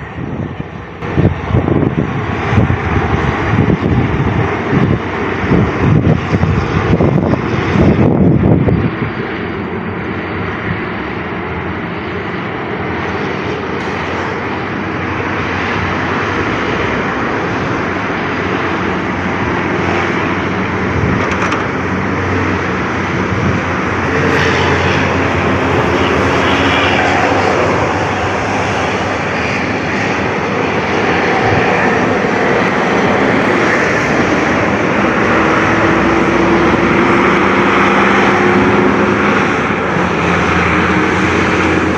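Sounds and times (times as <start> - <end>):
truck diesel engine running: 0.0 - 41.9.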